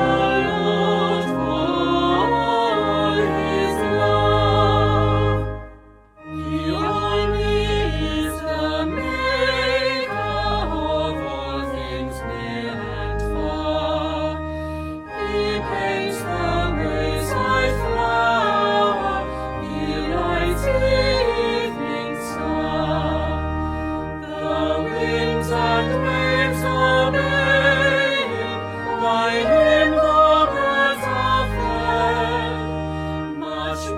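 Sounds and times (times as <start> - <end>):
choir singing: 0.0 - 33.9.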